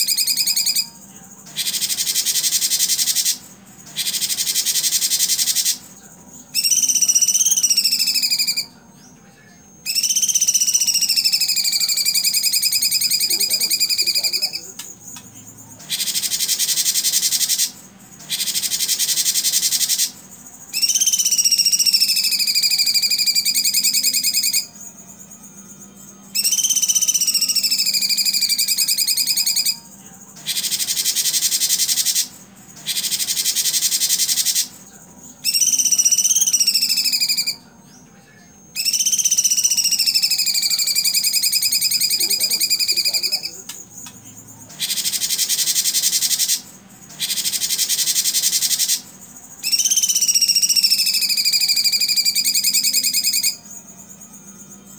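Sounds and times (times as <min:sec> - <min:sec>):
bird trilling song: 0:00.0 - 0:05.9, 0:06.5 - 0:15.2, 0:15.8 - 0:24.9, 0:26.3 - 0:34.8, 0:35.4 - 0:53.8
buzzy rattling bird calls: 0:00.0 - 0:08.7, 0:09.9 - 0:24.8, 0:26.3 - 0:37.6, 0:38.8 - 0:53.6.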